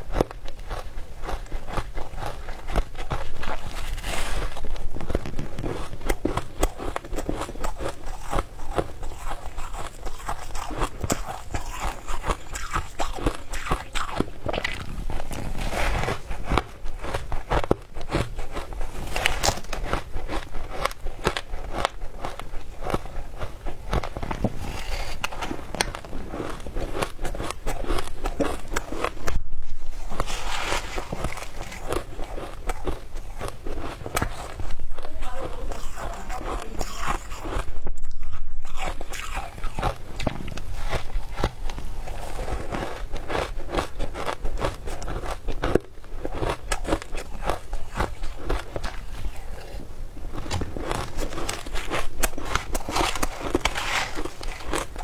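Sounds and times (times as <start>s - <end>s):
crunching ice while chewing: 0.0s - 55.0s.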